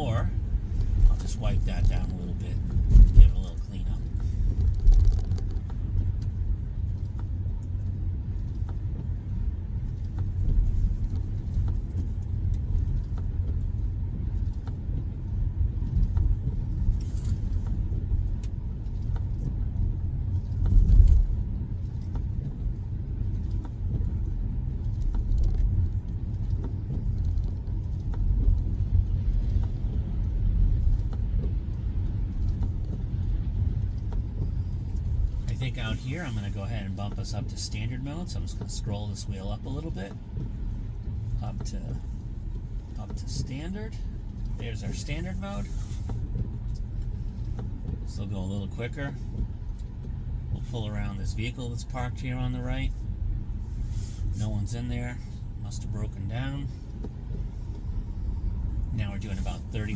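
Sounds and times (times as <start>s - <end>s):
tyres rumbling on road: 0.0s - 59.9s.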